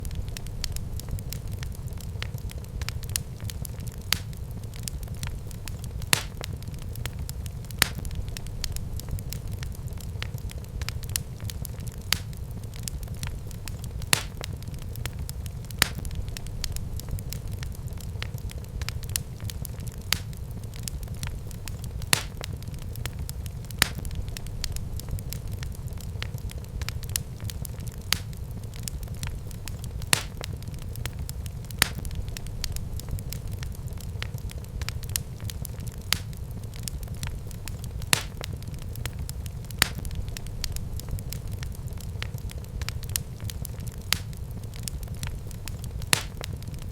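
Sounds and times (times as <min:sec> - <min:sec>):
fire crackling in fireplace: 0:00.0 - 0:46.9
sharp pops of fire: 0:00.0 - 0:46.9.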